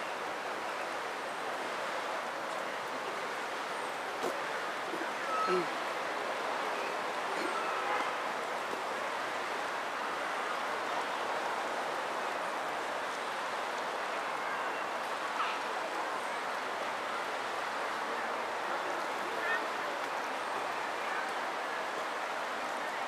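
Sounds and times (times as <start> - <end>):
woodland background noise: 0.0 - 23.0.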